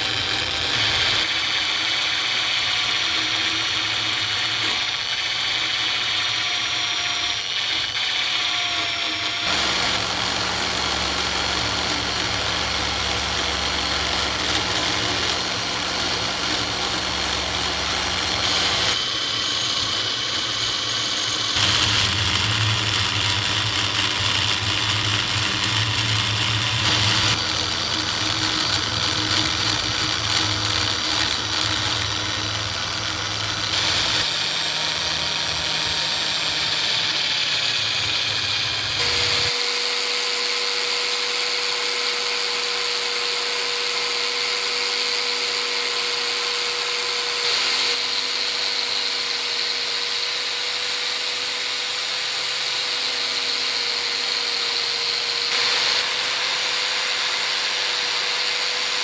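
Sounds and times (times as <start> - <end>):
electric power tool motor: 0.0 - 59.0.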